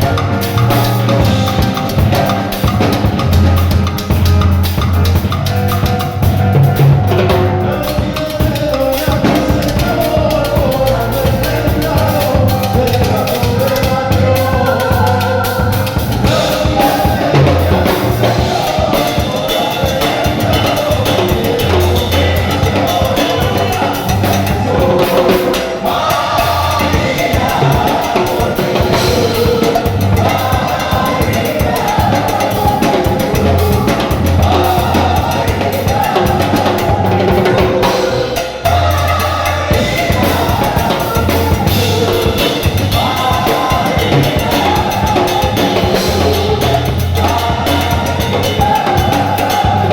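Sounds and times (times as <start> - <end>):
bass line: 0.0 - 49.9
drum kit beat: 0.0 - 49.9
worship band music: 0.0 - 49.9.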